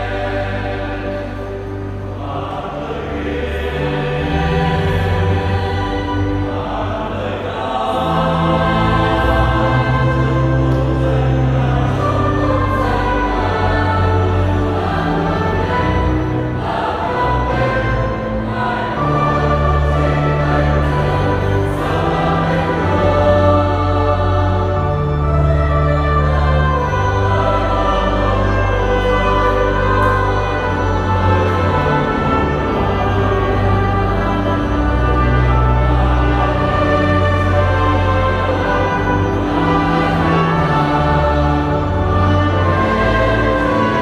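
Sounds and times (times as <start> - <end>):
church choir singing a hymn: 0.0 - 44.0.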